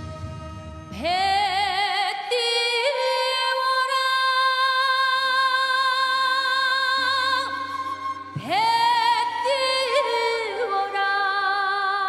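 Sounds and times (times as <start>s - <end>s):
woman singing folk song: 0.9s - 12.0s.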